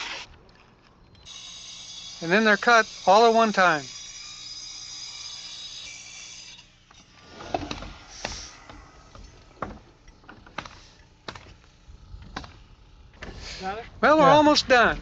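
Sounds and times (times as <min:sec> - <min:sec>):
power saw cutting plywood: 0:00.0 - 0:00.3, 0:01.3 - 0:13.6.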